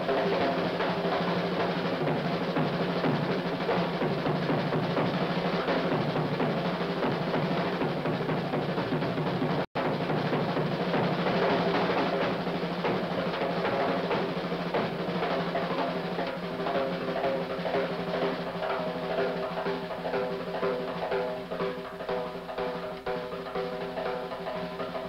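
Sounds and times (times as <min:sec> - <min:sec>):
band holding notes: 0:00.0 - 0:25.0
jazz drum solo: 0:00.0 - 0:25.0.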